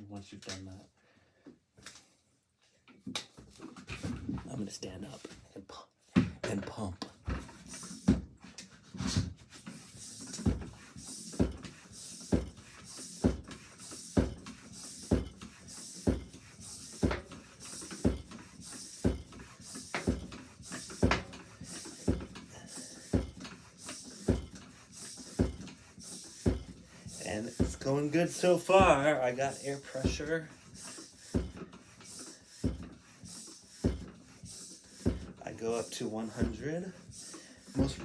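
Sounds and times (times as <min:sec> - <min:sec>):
bicycle pump knocks and air hiss: 0:06.2 - 0:38.0.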